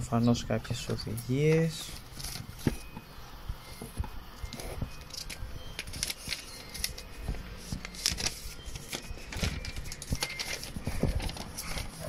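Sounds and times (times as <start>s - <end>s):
paper and cardboard rustling: 0.7s - 3.0s, 3.6s - 12.0s.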